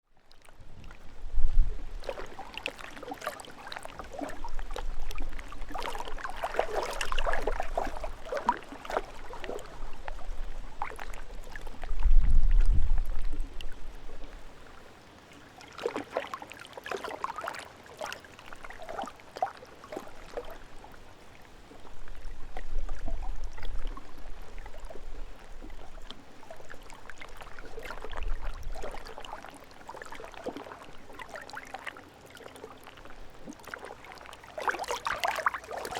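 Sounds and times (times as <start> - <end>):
lake waves lapping on rocky shore: 0.3 - 35.9.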